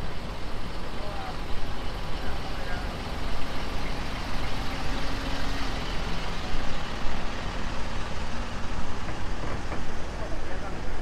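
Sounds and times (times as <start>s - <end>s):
large vehicle engine rumbling: 0.0s - 11.0s
street noise: 0.0s - 11.0s.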